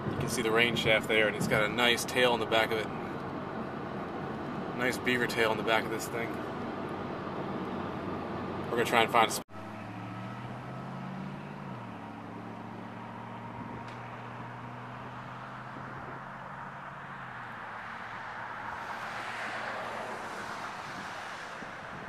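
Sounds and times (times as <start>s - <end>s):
road noise rumble: 0.0s - 22.0s.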